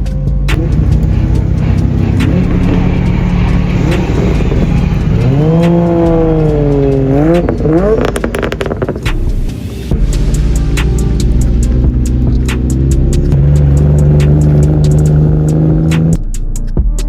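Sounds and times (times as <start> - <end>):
car engine revving: 0.5 - 16.3
exhaust cracks: 0.5 - 16.3.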